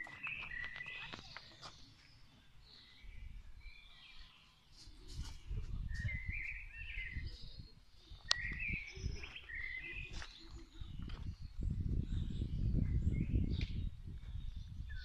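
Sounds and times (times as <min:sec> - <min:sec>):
songbirds warbling: 0:00.0 - 0:15.0.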